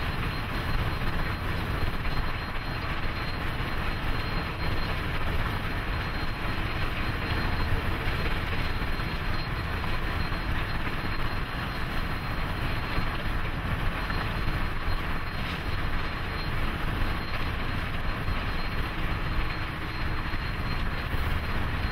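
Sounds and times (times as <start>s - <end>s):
steam locomotive running at speed: 0.0s - 21.9s.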